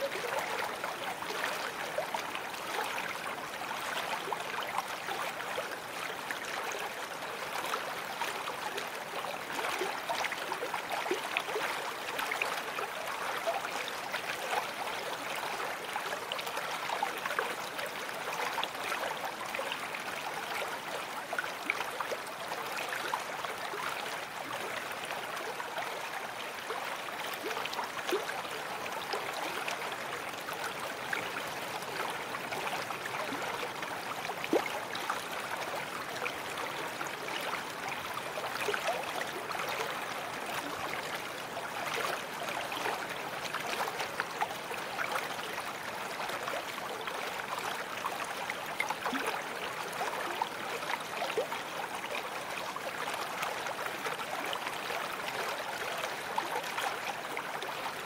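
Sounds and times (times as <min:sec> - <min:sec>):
babbling brook: 0:00.0 - 0:58.0.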